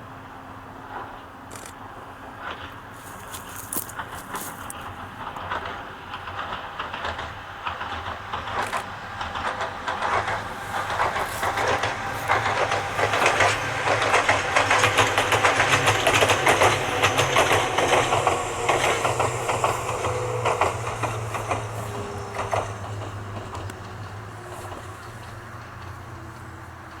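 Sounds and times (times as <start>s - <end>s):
electric train passing: 0.0s - 27.0s
wheels clicking over rail joints: 0.5s - 27.0s.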